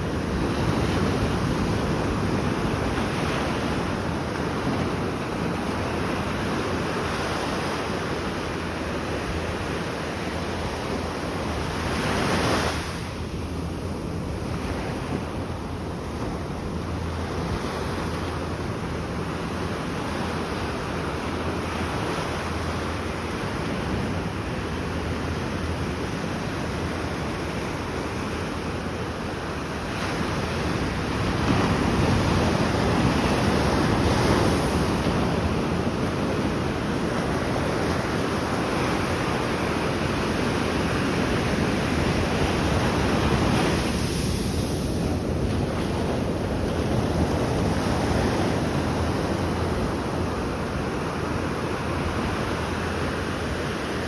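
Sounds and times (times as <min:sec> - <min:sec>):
ocean waves washing in: 0:00.0 - 0:54.0
wind on microphone: 0:00.0 - 0:54.0.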